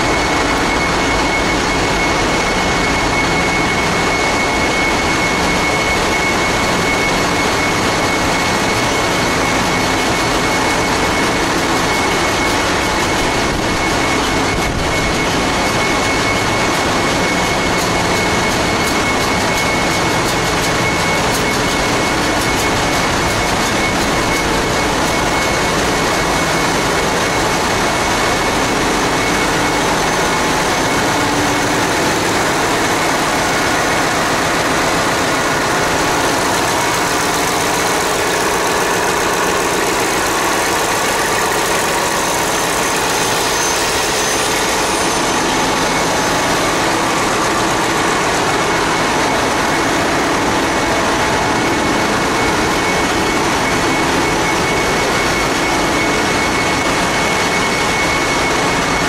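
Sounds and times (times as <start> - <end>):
engine room diesel machinery: 0.0 - 59.0
steady high whine: 0.0 - 59.0.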